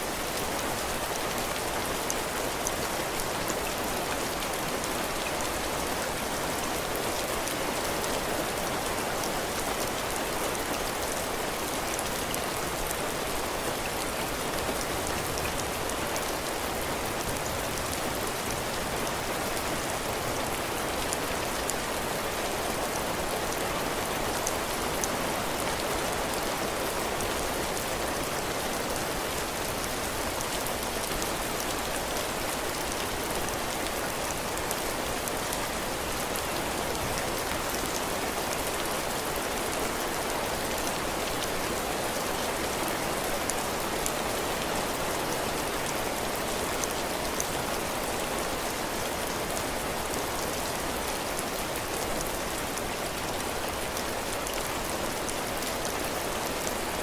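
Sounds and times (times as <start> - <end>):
heavy rain on roof and ground: 0.0 - 57.0.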